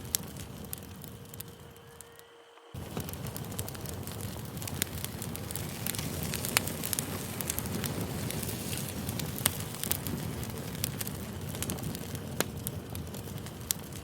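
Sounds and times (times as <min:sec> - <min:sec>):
campfire wood crackling: 0:00.0 - 0:14.0
low rumble of flame: 0:00.0 - 0:14.0.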